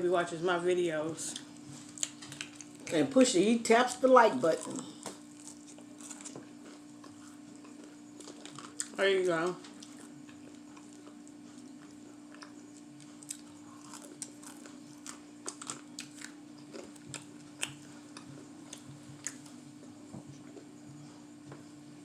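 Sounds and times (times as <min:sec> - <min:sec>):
faint hum: 0:00.0 - 0:22.0
person chewing crunchy food: 0:01.3 - 0:03.0, 0:03.9 - 0:20.7.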